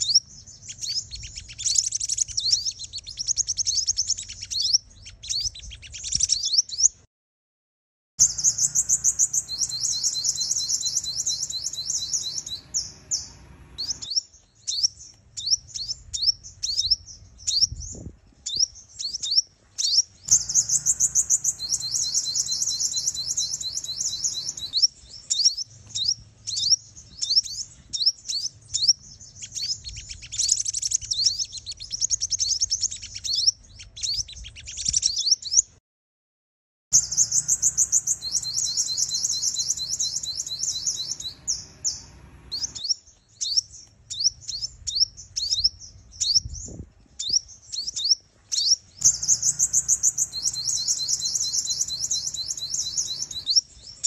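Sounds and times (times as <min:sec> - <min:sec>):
sunbird twittering trills: 0:00.0 - 0:07.1, 0:08.2 - 0:35.7, 0:37.0 - 0:54.0.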